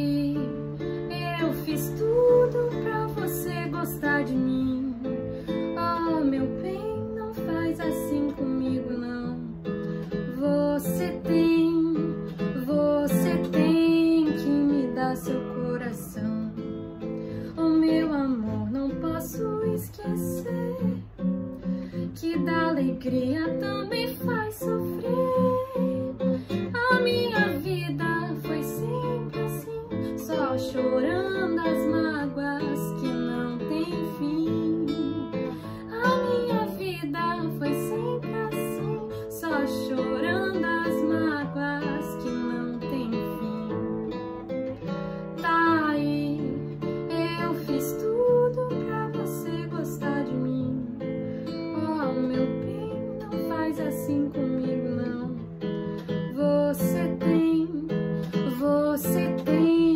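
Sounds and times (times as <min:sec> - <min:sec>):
classical guitar: 0:00.0 - 0:59.9
woman singing: 0:00.0 - 0:59.9.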